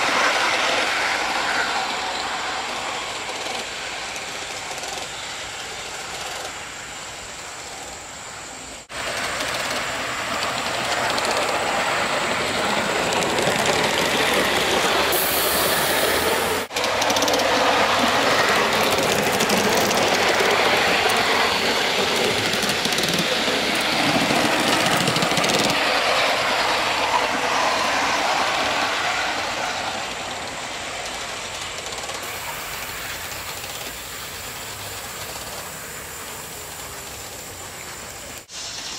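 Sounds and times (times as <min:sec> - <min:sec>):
model steam locomotive hissing: 0:00.0 - 0:38.9
wheels on rails: 0:00.0 - 0:38.9.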